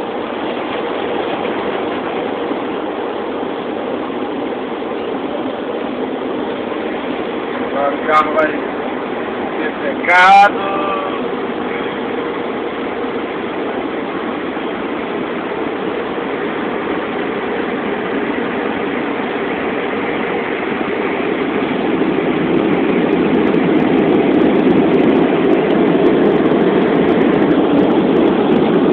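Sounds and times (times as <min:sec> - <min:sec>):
rushing noise inside car: 0:00.0 - 0:28.9.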